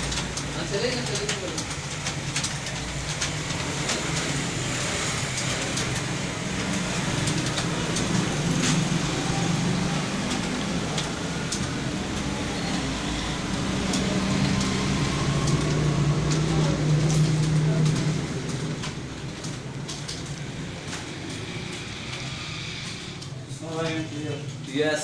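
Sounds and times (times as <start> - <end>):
computer keyboards clattering: 0.0 - 25.0.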